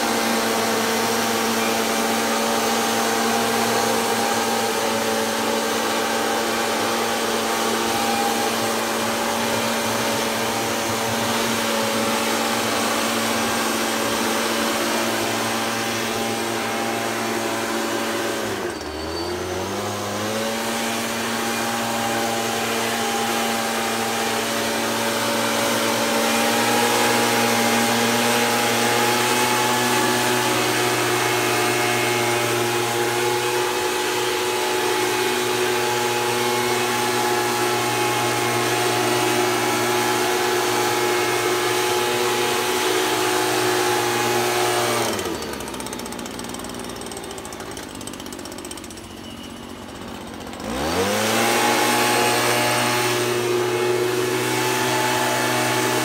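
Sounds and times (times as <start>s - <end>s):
mist blower engine running: 0.0s - 56.0s.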